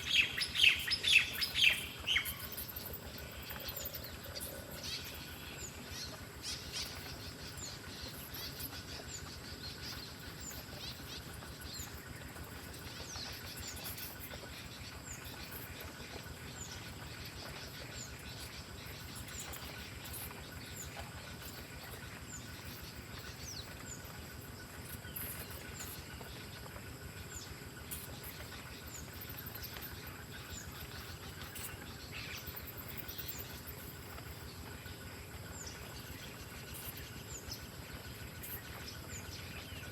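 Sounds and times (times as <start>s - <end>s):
outdoor background noise: 0.0s - 39.9s
small bird chirping: 0.0s - 39.9s.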